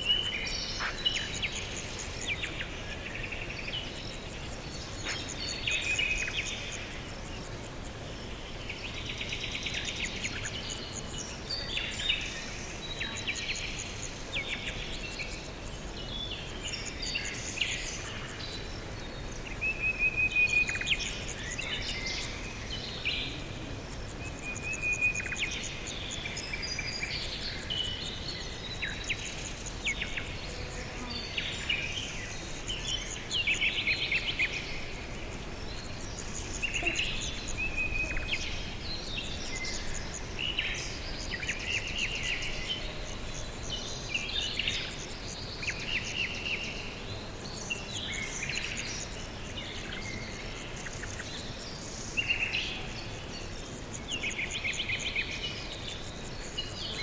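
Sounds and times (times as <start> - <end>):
outdoor background hiss: 0.0 - 57.0
songbirds singing: 0.0 - 57.0.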